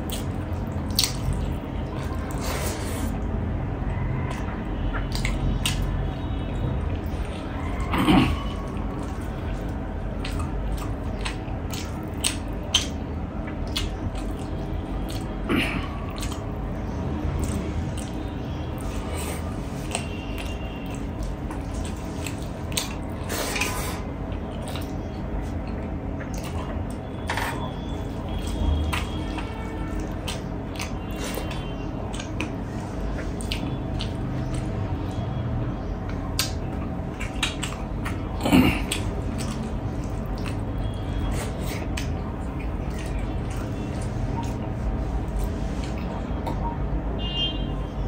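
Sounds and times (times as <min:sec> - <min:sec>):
wet chewing and lip smacks: 0:00.0 - 0:06.1, 0:06.8 - 0:35.3, 0:36.0 - 0:46.9.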